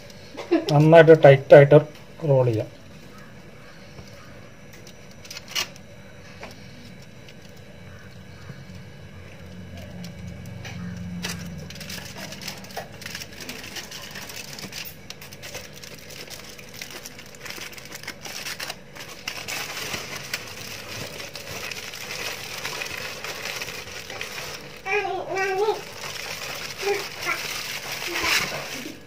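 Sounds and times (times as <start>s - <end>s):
aluminium foil crinkling: 3.9s - 29.0s.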